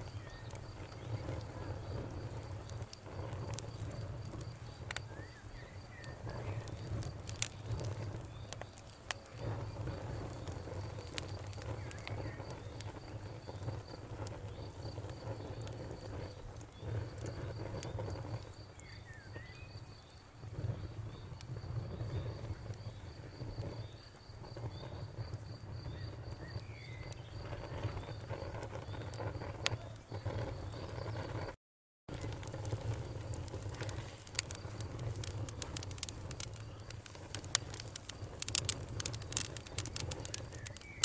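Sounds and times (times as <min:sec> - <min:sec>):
cricket chirping: 0:00.0 - 0:31.5, 0:32.2 - 0:41.0
campfire crackling and popping: 0:00.0 - 0:41.0.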